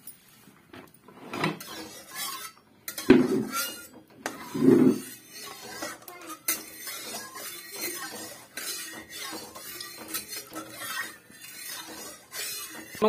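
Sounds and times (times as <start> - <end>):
metal spatula scraping a pan: 1.2 - 13.0.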